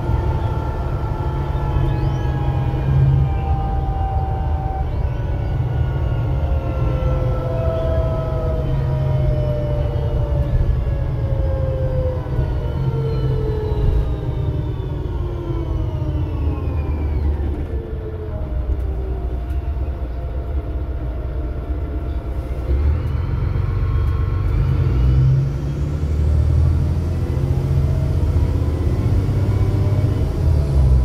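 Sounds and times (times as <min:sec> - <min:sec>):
bus engine rumble: 0:00.0 - 0:31.0
bus whine: 0:00.0 - 0:31.0.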